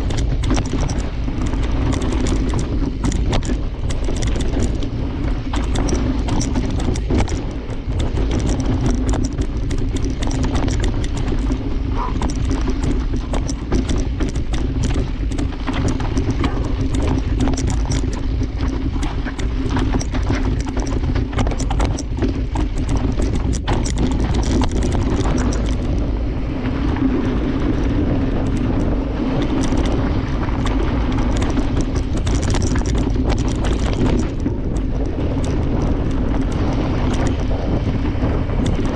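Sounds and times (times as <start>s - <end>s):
bike clattering and rattling: 0.0s - 38.9s
bike tyres on rocky dirt trail: 0.0s - 38.9s
wind rumble on microphone: 0.0s - 38.9s.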